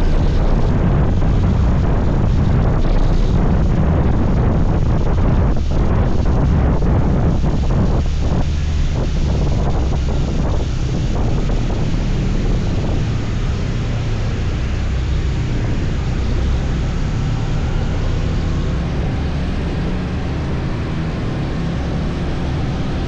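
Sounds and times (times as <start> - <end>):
road noise: 0.0 - 23.0
wind rumble on microphone: 0.0 - 23.0.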